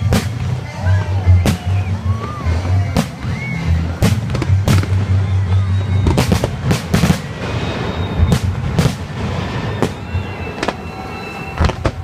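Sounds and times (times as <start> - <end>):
fireworks bursts: 0.0 - 12.0.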